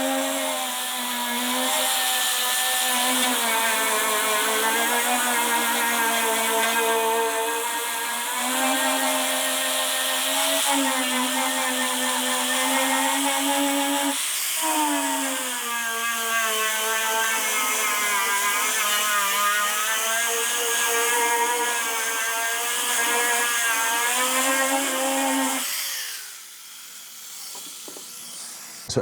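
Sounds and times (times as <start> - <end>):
angle grinder stripping paint: 0.0 - 29.0.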